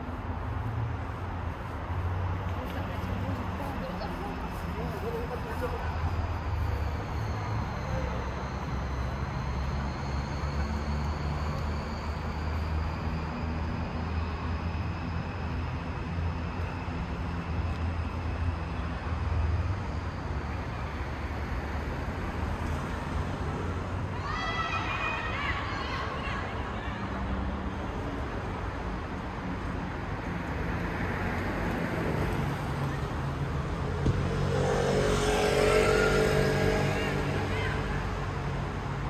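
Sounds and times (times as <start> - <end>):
distant city traffic rumble: 0.0 - 39.0.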